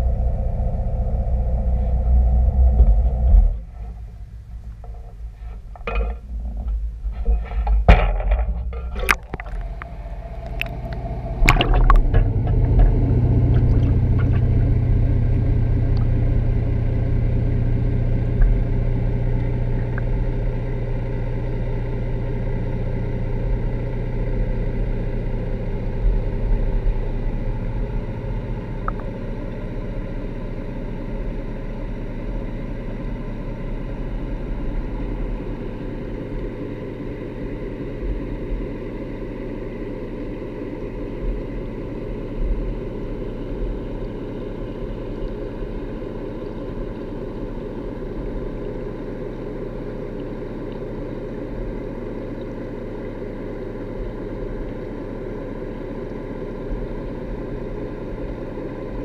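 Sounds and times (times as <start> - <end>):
engine hum through water: 0.0 - 59.0.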